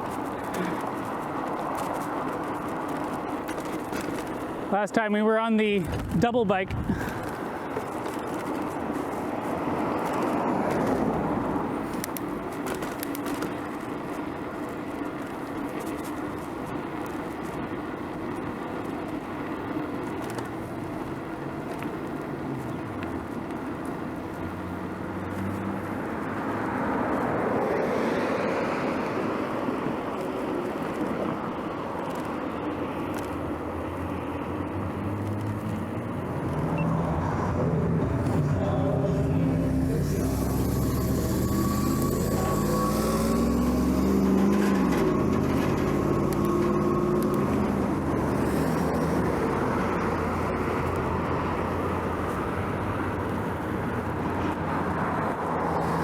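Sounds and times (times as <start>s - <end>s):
road noise hiss: 0.0s - 56.0s
vehicles passing: 0.0s - 56.0s.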